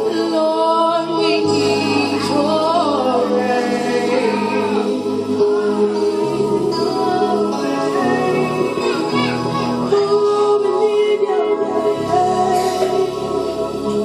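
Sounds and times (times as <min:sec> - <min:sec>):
sustained keyboard chords: 0:00.0 - 0:14.0
women singing: 0:00.0 - 0:14.0.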